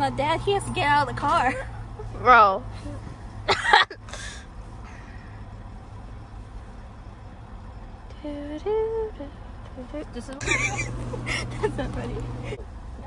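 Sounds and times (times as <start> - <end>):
low car engine rumble: 0.0 - 13.0.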